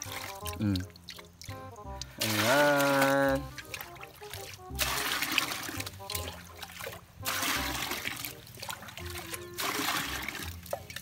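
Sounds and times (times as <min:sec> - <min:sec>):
background music with steady beat: 0:00.0 - 0:11.0
water pouring into plastic bucket: 0:00.0 - 0:11.0.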